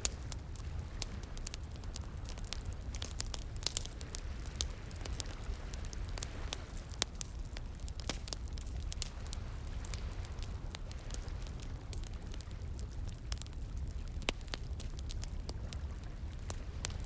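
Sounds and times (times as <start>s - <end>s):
campfire crackling: 0.0s - 17.0s
low fire rumble: 0.0s - 17.0s.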